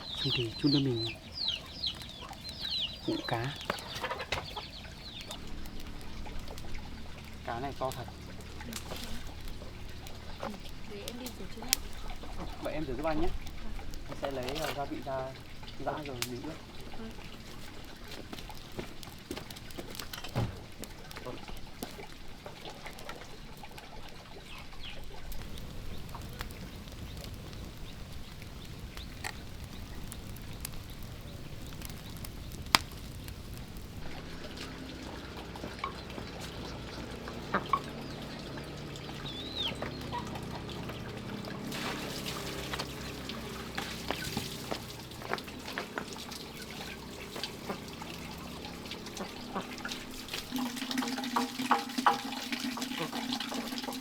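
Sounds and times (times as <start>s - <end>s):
water pouring and sloshing: 0.0s - 54.0s.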